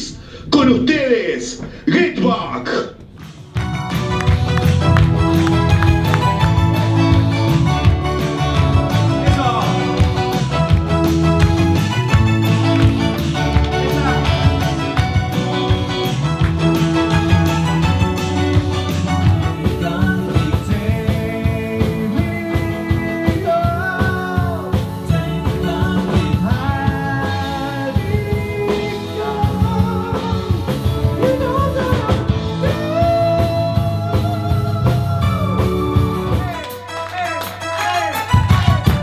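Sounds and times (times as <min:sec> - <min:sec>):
bass guitar: 0:00.0 - 0:39.0
drum kit: 0:00.0 - 0:39.0
electric guitar: 0:03.0 - 0:39.0
electric keyboard: 0:03.0 - 0:39.0.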